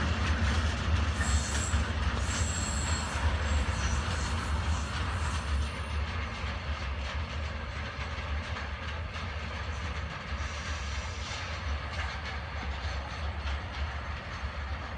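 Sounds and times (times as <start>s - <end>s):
train rumbling: 0.0s - 14.9s
wheels clicking over rail joints: 0.0s - 14.9s.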